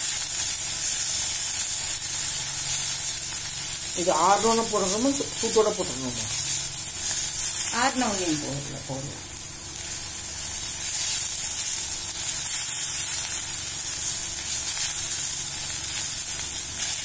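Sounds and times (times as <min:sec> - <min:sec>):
leaves sizzling in hot oil: 0:00.0 - 0:17.0.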